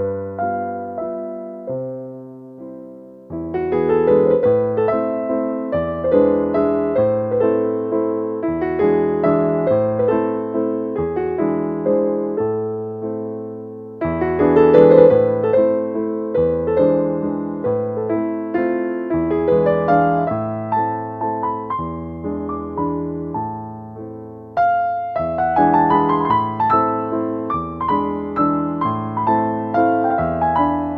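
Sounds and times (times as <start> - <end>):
gentle piano music: 0.0 - 30.9.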